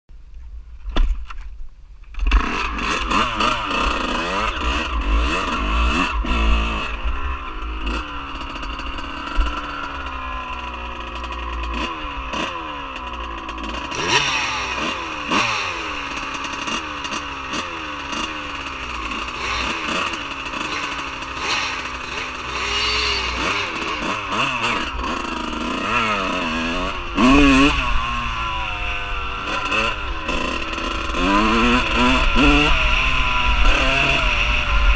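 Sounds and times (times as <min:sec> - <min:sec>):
dirt bike engine revving: 0:02.1 - 0:34.9.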